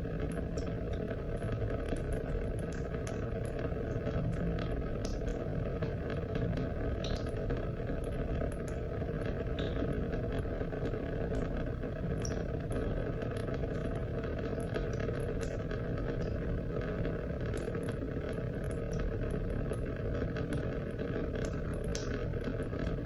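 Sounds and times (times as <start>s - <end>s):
raindrops ticking: 0.1s - 23.0s.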